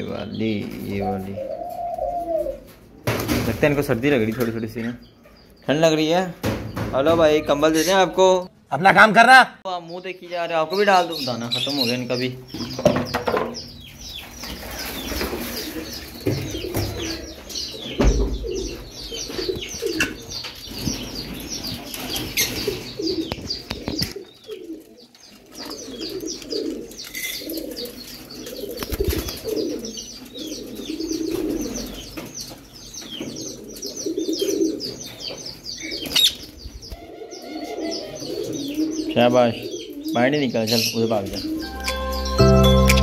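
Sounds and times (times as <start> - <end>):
pigeons cooing: 0.0 - 3.0, 11.1 - 42.7
small birds chirping: 0.0 - 43.0.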